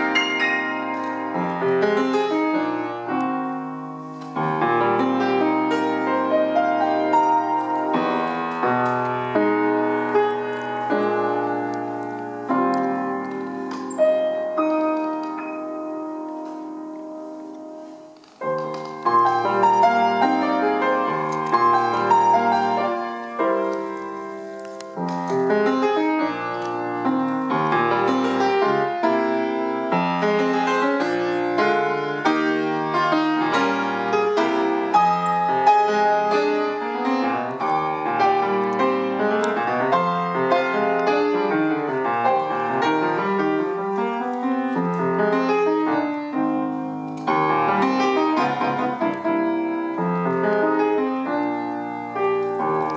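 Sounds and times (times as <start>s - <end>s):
solo grand piano folk music: 0.0s - 52.9s.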